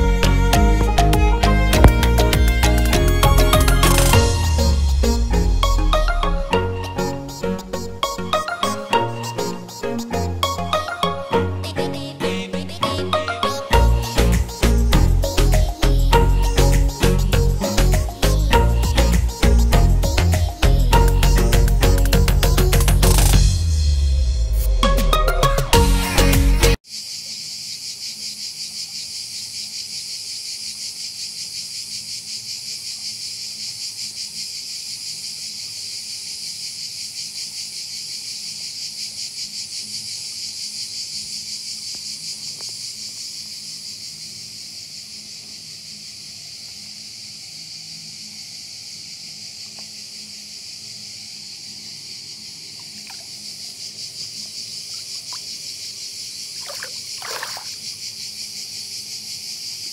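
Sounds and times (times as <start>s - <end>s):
cicadas buzzing: 0.0s - 12.3s, 13.4s - 59.9s.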